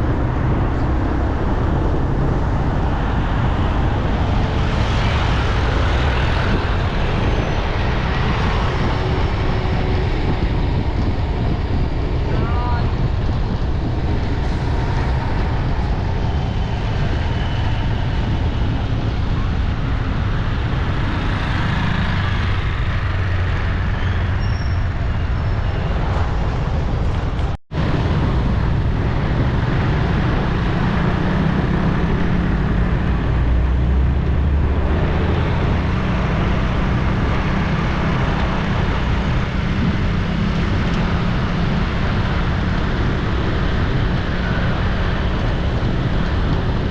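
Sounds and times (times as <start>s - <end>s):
city street traffic: 0.0s - 46.9s.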